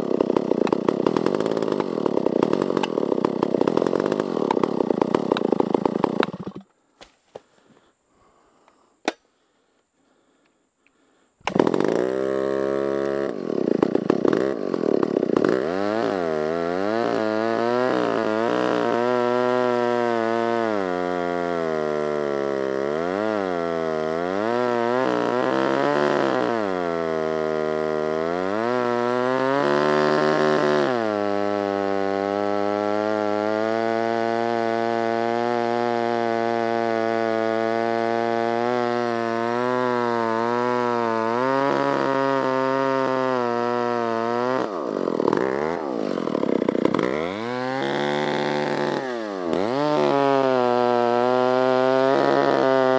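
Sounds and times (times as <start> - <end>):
chainsaw cutting wood: 0.0 - 9.3, 10.1 - 52.9.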